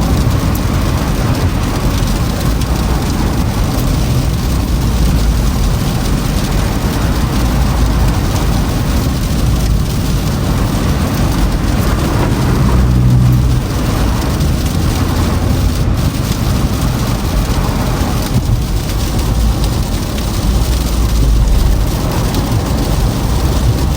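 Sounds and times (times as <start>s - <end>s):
car driving rumble: 0.0s - 23.9s.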